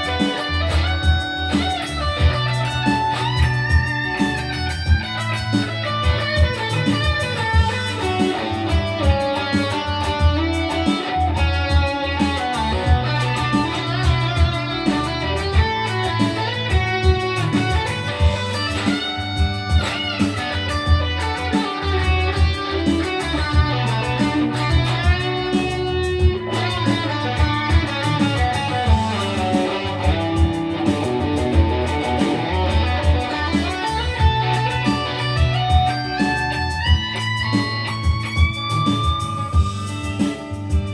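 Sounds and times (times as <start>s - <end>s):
electric guitar music over a beat: 0.0s - 40.9s.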